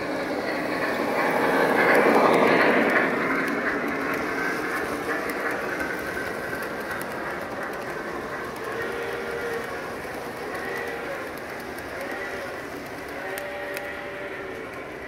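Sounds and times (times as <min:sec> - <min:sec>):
model train wheels rumbling on rail: 0:00.0 - 0:15.0
faint clicking: 0:00.8 - 0:15.0.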